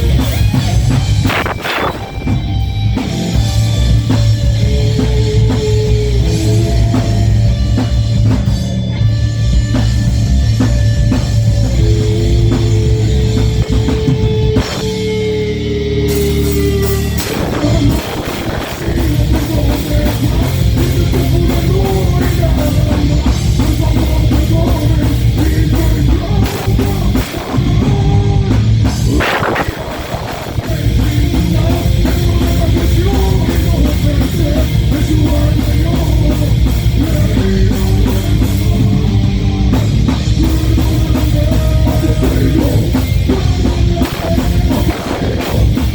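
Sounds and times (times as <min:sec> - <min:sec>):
heavy metal band playing live: 0:00.0 - 0:45.9.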